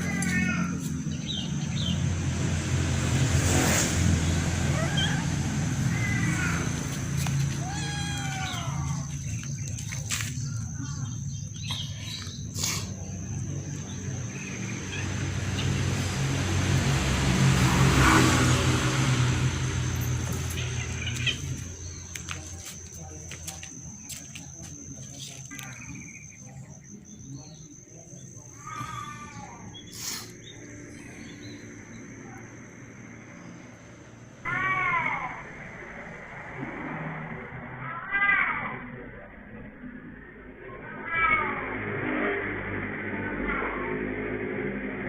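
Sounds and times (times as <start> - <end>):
vehicle engine passing by: 0.0 - 39.0, 41.1 - 45.0
high-pitched whine: 0.0 - 45.0.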